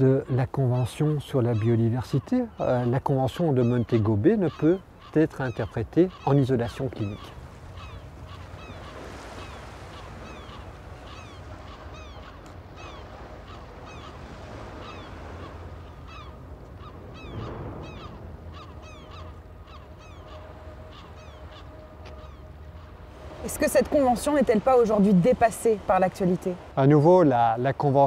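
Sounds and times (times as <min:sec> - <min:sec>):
gulls calling: 0:00.0 - 0:28.0
wind and surf: 0:00.0 - 0:28.0.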